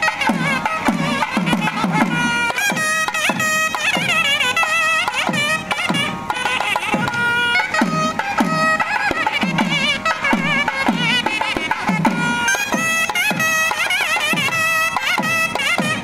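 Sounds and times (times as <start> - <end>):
double reed wind instrument melody: 0.0 - 16.0
drum strokes falling in pitch: 0.0 - 16.0.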